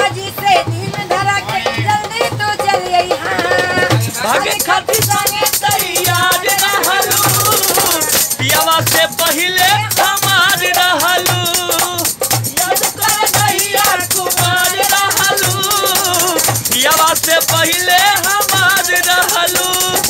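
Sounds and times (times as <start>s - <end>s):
low drum beat: 0.0s - 20.0s.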